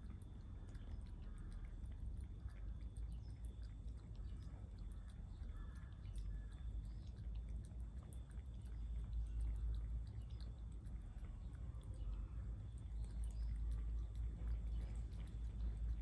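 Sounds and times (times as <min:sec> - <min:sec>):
cat lapping water: 0:00.0 - 0:16.0.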